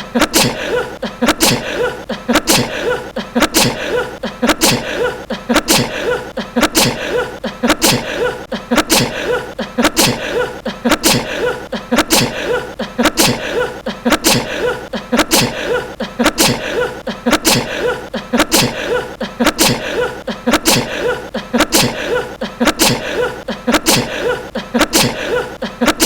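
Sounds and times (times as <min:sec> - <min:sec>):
man sneezing: 0:00.0 - 0:26.0.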